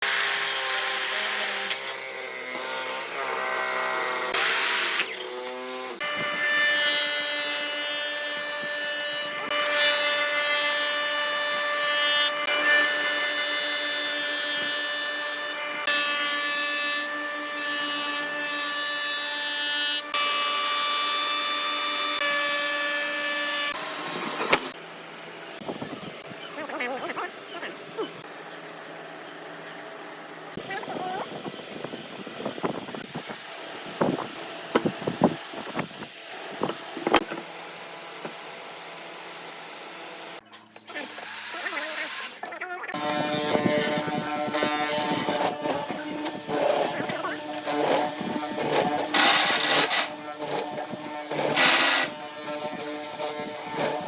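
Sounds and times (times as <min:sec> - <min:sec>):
power tools cutting wood: 0:00.0 - 0:54.0.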